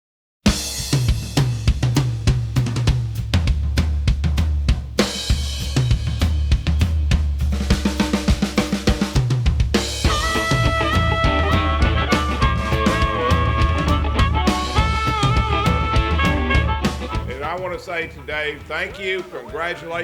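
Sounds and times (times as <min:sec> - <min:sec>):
drum kit beat: 0:00.5 - 0:20.0
bass line: 0:00.9 - 0:18.8.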